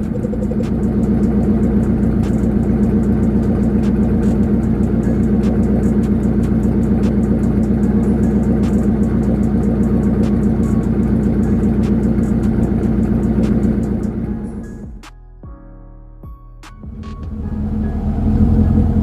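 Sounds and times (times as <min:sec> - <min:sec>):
engine exhaust idling: 0:00.0 - 0:14.9, 0:16.9 - 0:19.0.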